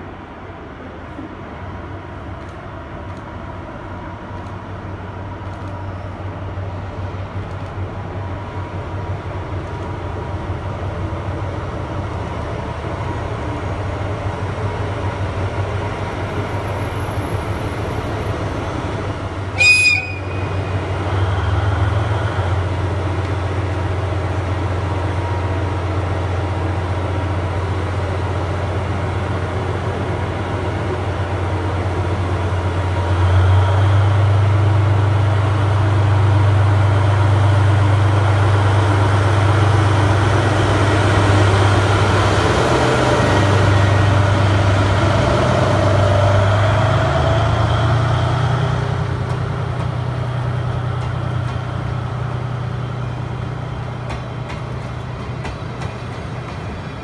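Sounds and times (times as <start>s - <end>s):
diesel locomotive drone: 0.0s - 57.0s.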